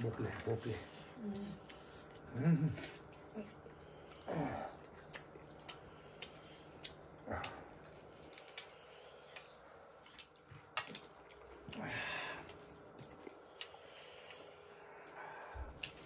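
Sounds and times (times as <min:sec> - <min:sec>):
chewing and wet mouth noises: 0:00.0 - 0:16.0.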